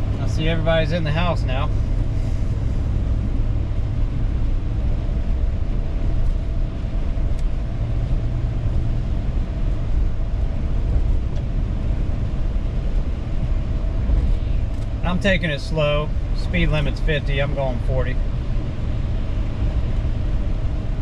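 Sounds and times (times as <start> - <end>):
car road noise rumble: 0.0 - 21.0.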